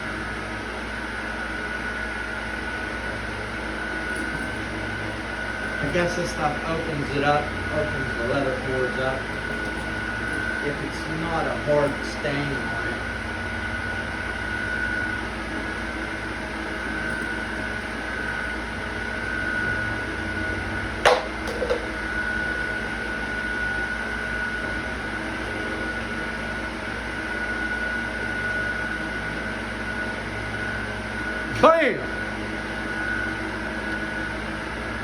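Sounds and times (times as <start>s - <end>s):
machine hum with high whine: 0.0s - 35.0s.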